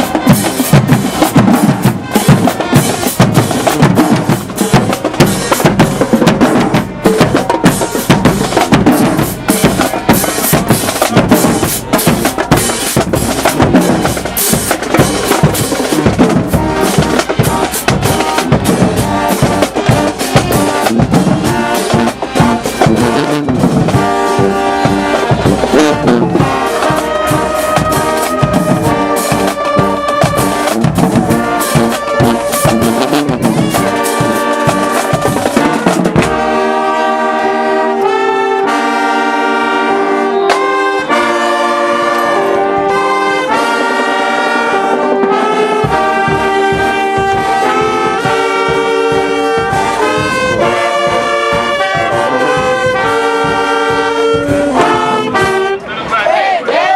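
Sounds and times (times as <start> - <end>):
brass band playing: 0.0 - 56.9.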